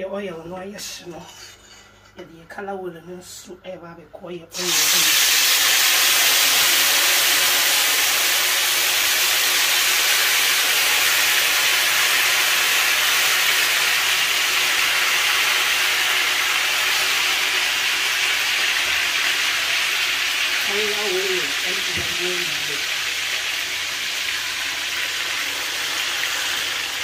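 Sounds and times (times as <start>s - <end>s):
plantain deep-frying in hot oil: 4.5s - 27.0s.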